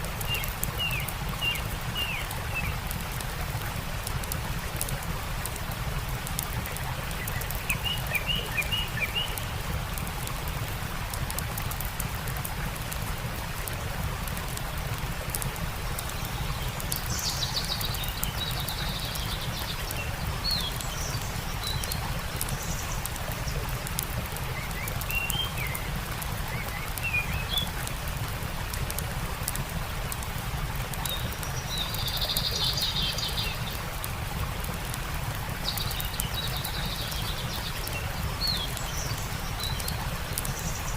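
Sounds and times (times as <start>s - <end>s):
campfire crackling: 0.0s - 40.9s
stream rushing: 0.0s - 40.9s
small birds chirping: 0.1s - 10.6s, 15.4s - 30.2s, 30.9s - 40.9s.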